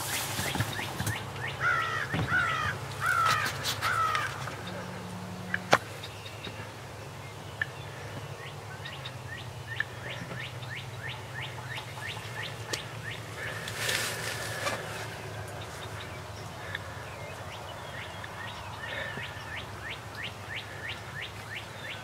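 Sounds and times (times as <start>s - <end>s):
harsh bird calls: 0.0s - 22.0s.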